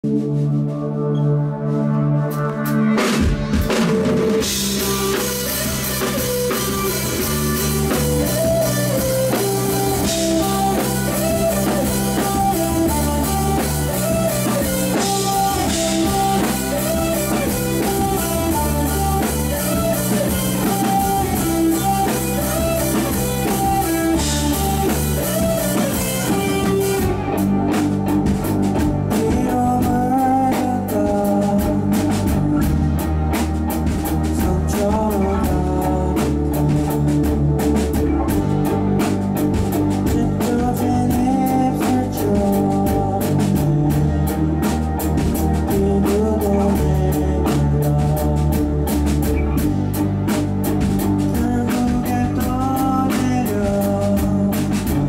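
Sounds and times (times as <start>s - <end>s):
rock band playing: 0.0s - 55.0s
lead guitar with string bends: 0.1s - 55.0s
drum kit cymbals: 2.3s - 55.0s.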